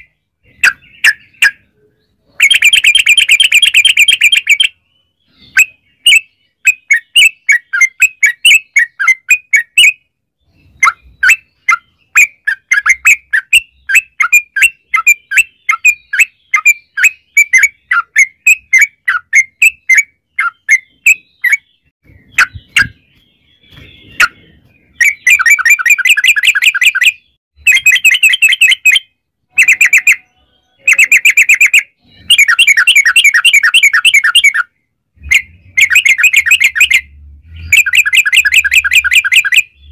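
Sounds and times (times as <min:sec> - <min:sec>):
bulbul rapid chirping: 0:02.4 - 0:04.8, 0:05.4 - 0:10.0, 0:10.7 - 0:37.1, 0:37.7 - 0:39.9.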